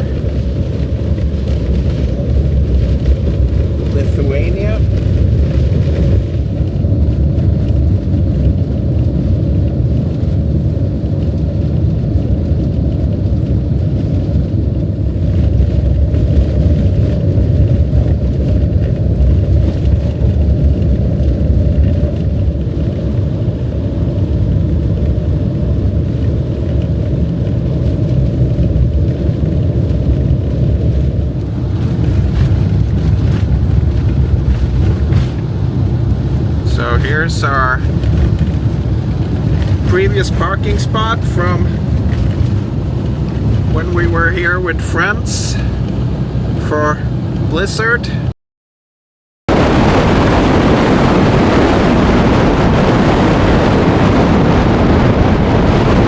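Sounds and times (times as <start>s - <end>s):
van engine and tyre noise: 0.0s - 48.4s, 49.5s - 56.0s.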